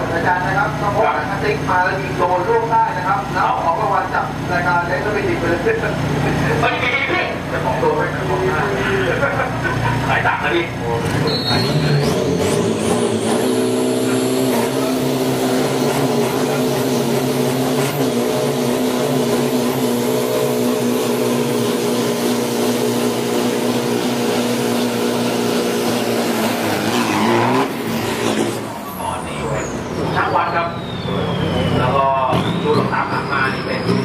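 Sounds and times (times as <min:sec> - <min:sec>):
diesel engine at high revs: 0:00.0 - 0:34.0.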